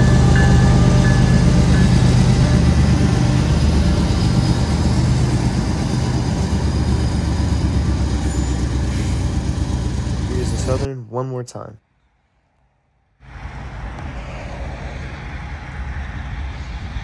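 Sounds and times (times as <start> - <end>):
diesel locomotive engine droning: 0.0 - 10.9, 13.2 - 17.0.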